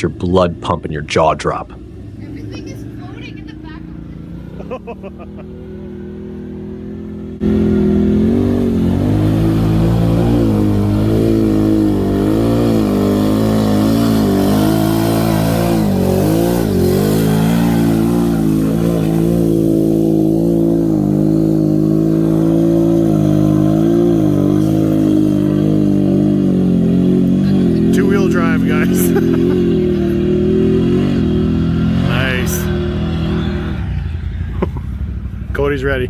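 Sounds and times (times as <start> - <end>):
truck engine revving hard: 0.0 - 36.0.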